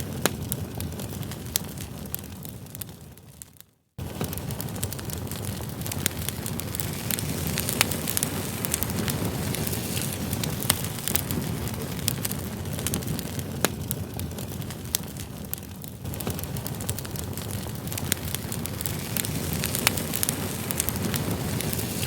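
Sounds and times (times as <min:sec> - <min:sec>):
crackles and pops of burning logs: 0:00.0 - 0:22.0
low rush of flames: 0:00.0 - 0:22.0.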